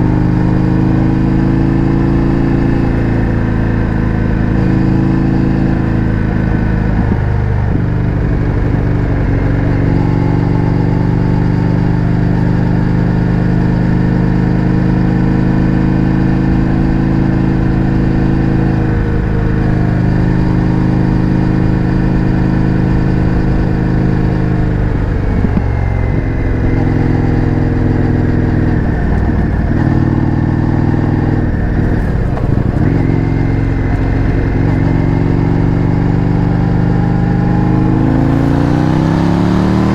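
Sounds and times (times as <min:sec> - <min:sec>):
motorcycle engine at road speed: 0:00.0 - 0:39.9.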